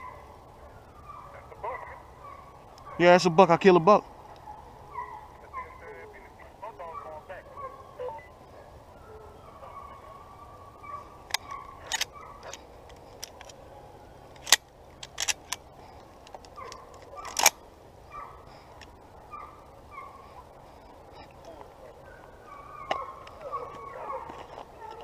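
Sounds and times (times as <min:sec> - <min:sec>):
distant hounds yelping: 0:00.0 - 0:14.6, 0:15.3 - 0:25.0.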